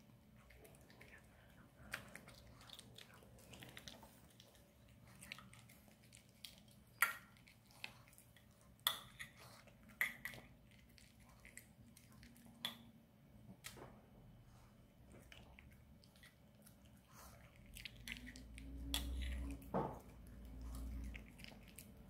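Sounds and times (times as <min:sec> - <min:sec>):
dog chewing and lapping food: 0:00.0 - 0:12.9, 0:15.0 - 0:22.0.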